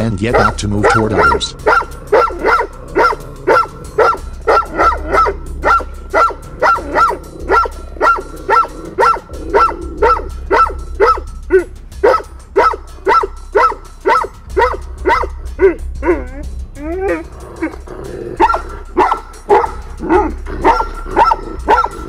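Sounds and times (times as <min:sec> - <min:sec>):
dog barking: 0:00.3 - 0:16.3, 0:18.4 - 0:22.0.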